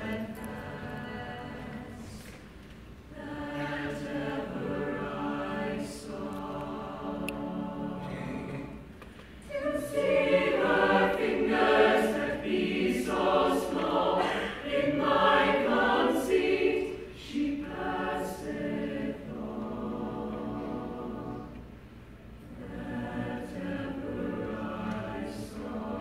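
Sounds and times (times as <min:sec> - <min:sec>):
mixed-voice choir singing: 0:00.0 - 0:26.0.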